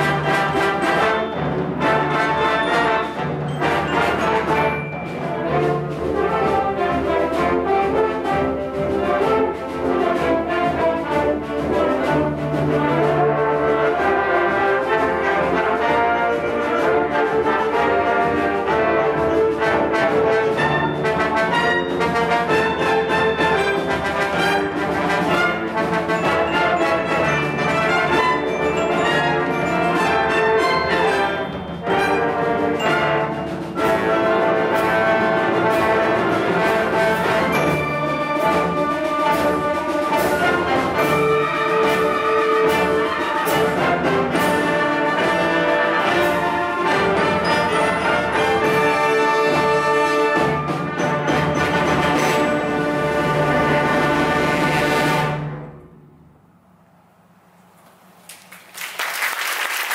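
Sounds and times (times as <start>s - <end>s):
wind band playing sustained chords: 0.0s - 56.2s.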